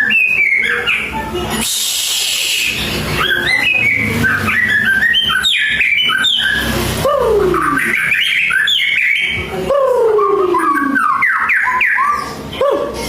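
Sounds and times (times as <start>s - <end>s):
songbird whistling song: 0.0s - 6.8s, 7.4s - 9.5s, 10.1s - 12.7s.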